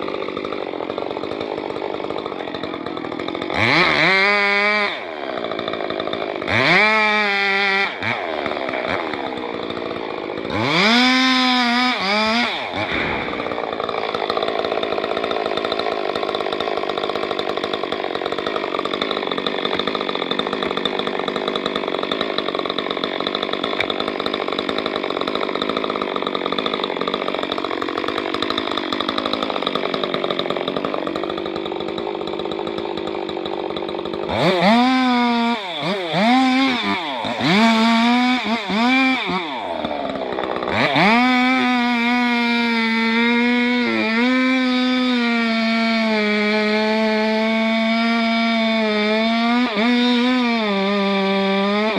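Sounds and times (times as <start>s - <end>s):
chainsaw revving and cutting: 0.0s - 51.9s.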